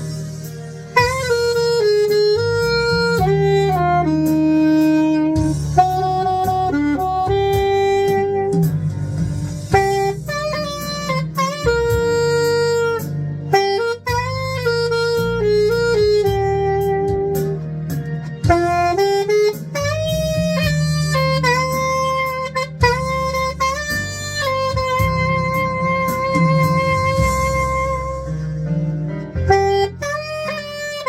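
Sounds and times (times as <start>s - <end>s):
backing accompaniment: 0.0s - 31.0s
saxophone ballad melody: 0.0s - 31.0s.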